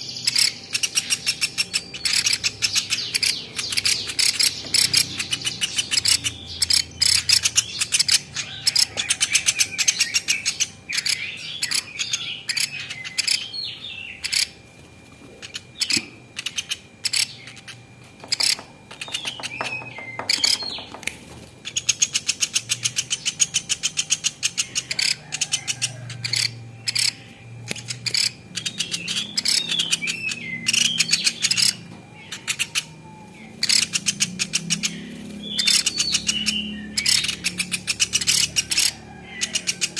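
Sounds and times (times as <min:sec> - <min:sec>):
bird trilling and chirping: 0:00.0 - 0:39.9.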